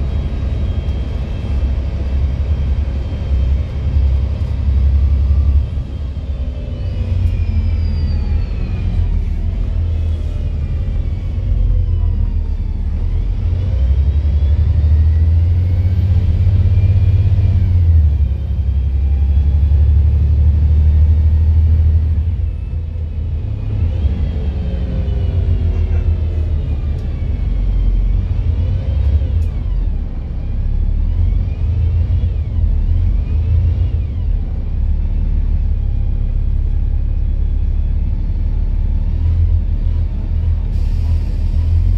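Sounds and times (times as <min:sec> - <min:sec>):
bus engine rumble: 0:00.0 - 0:41.9.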